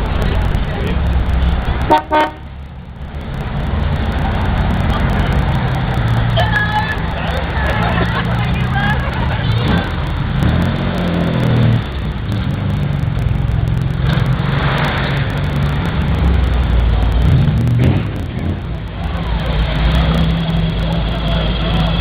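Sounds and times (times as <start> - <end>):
vintage car engines driving past: 0.0 - 22.0.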